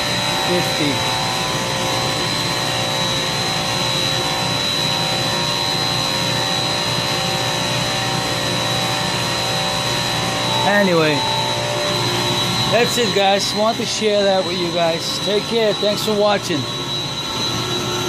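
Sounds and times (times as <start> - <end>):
compressors humming and whining: 0.0 - 18.0.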